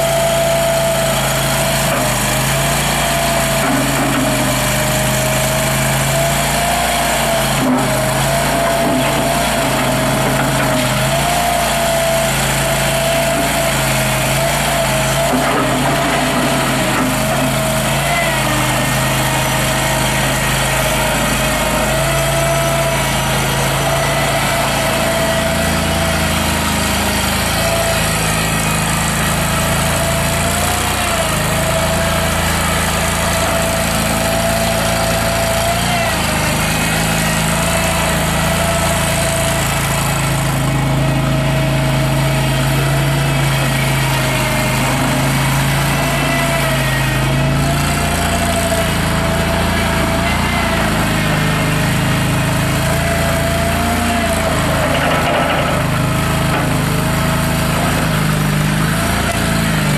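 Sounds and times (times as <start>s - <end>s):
loader engine running: 0.0s - 59.9s.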